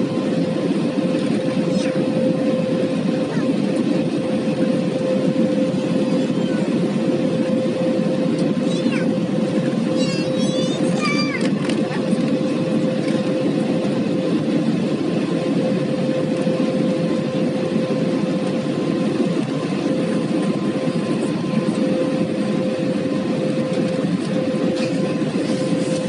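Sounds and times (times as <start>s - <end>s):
aircraft cabin engine and airflow rush: 0.0s - 26.0s
constant hum: 0.0s - 26.0s.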